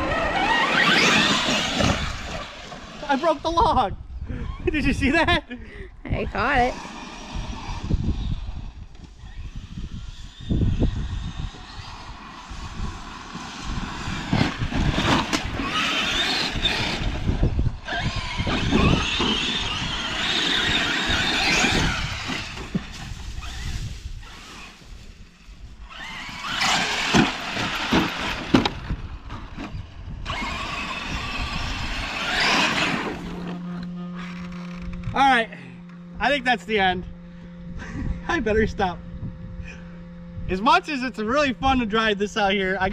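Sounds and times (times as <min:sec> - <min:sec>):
small vehicle motor revving: 0:00.0 - 0:05.2, 0:06.2 - 0:41.9.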